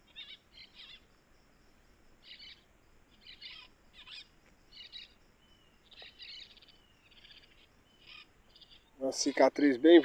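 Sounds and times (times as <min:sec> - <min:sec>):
songbird chirping: 0:00.0 - 0:10.0.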